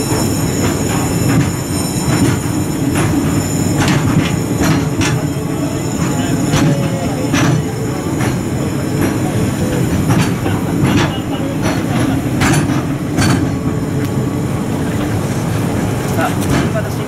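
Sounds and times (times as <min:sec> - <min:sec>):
wheels clacking over rail joints: 0:00.0 - 0:14.2, 0:14.8 - 0:17.0
train wheels rumbling on rails: 0:00.0 - 0:17.0.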